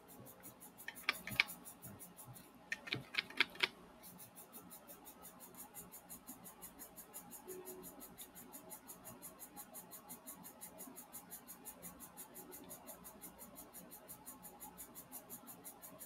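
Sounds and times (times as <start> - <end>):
printing pen ticking: 0.1 - 16.0.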